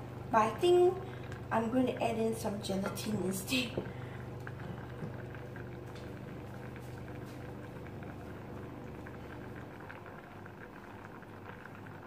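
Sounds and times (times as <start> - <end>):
low hum: 0.0 - 12.0
sauce bubbling in a saucepan: 0.0 - 12.0.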